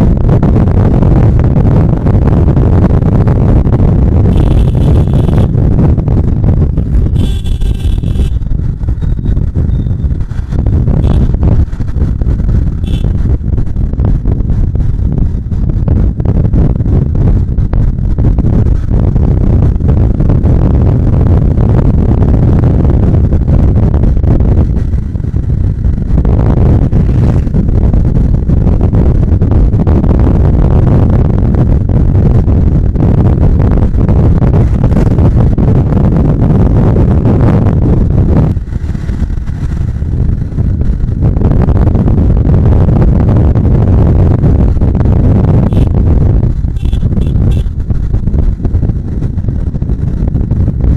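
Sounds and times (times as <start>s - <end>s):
motorcycle engine rumbling: 0.0s - 50.9s
road noise: 0.0s - 50.9s
wind buffeting microphone: 0.0s - 50.9s.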